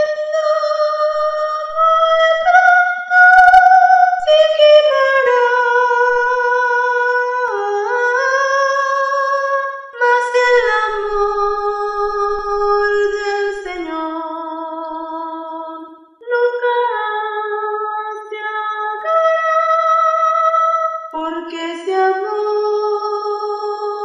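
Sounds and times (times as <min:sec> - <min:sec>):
soprano voice singing a hymn: 0:00.0 - 0:24.0.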